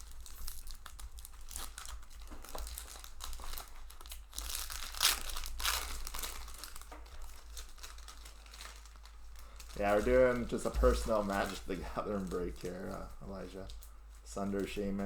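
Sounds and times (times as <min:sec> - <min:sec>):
pack wrappers crinkling and tearing: 0:00.0 - 0:15.0.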